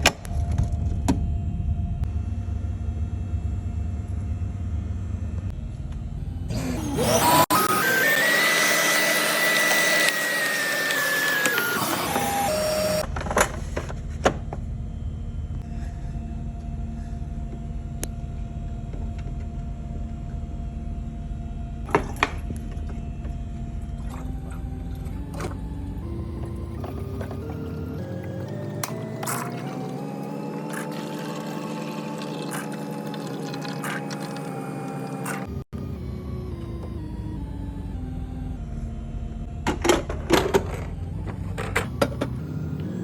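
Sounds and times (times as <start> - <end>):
coffee machine whirring: 0.0 - 43.0
low mechanical hum: 0.0 - 43.0.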